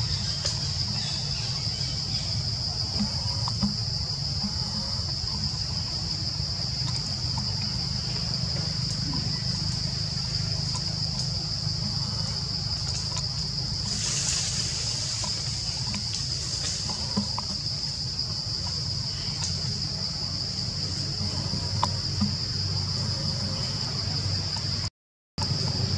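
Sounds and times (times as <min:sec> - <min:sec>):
high-pitched insect drone: 0:00.0 - 0:25.9
low steady rumble: 0:00.0 - 0:25.9.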